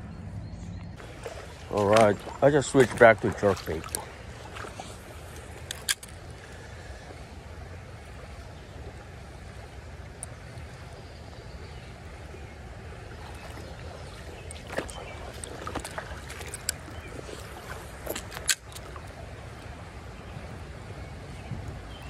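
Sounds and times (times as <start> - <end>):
steady low rumble: 0.0 - 22.0
creek water running over stones: 1.0 - 22.0.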